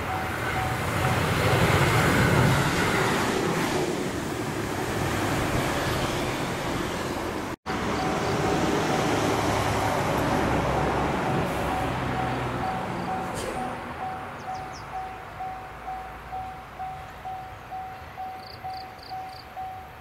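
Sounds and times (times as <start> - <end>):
road traffic noise: 0.0 - 20.0
train rumble: 0.0 - 20.0.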